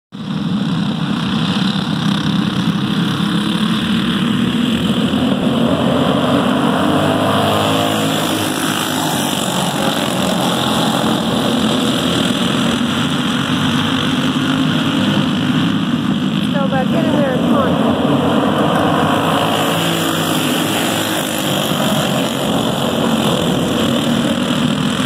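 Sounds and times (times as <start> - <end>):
racing kart engines: 0.2 - 25.0.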